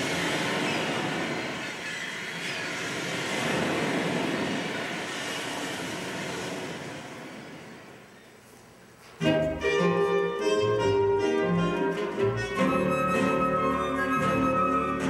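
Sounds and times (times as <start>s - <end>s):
loud steady pitchless noise: 0.0s - 15.0s.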